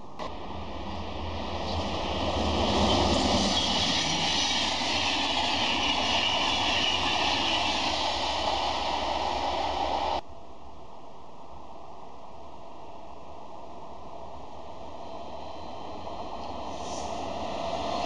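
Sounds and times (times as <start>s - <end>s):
train passing at speed: 0.0s - 10.3s, 12.4s - 18.0s.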